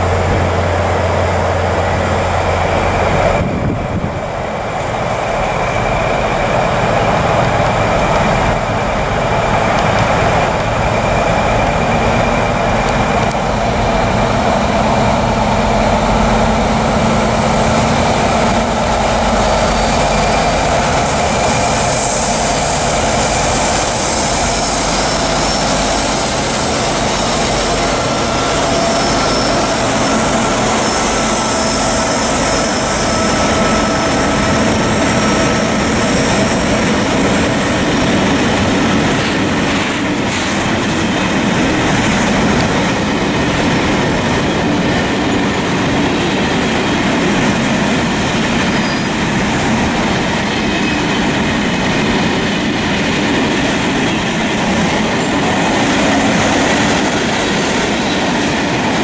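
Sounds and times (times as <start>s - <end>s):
diesel locomotive engines: 0.0s - 59.0s
train wheels on rails: 0.0s - 59.0s.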